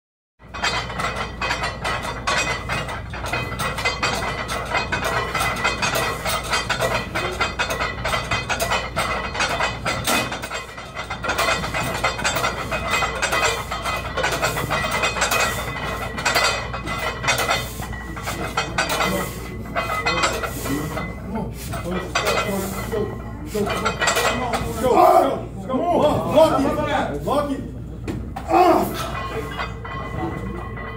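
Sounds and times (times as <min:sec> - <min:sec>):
weight plates clanking: 0:00.4 - 0:27.1, 0:28.0 - 0:30.9.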